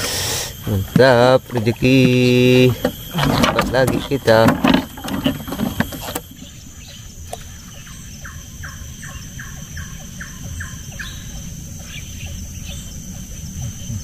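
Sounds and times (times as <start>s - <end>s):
faint steady high tone: 0.0s - 14.0s.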